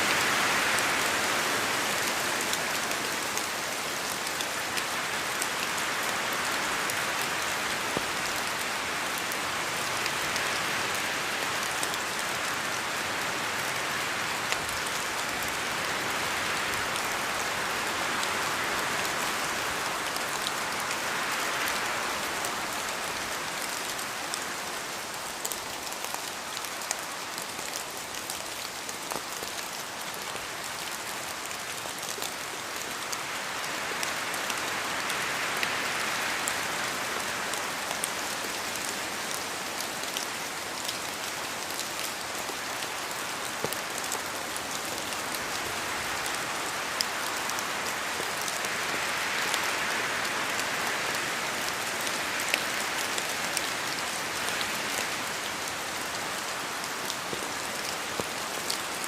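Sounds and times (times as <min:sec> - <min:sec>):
rain hissing in a forest: 0:00.0 - 0:59.0.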